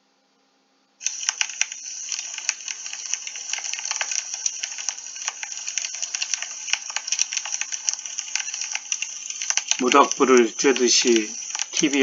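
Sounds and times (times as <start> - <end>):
wood fire crackling and popping: 1.1 - 12.0.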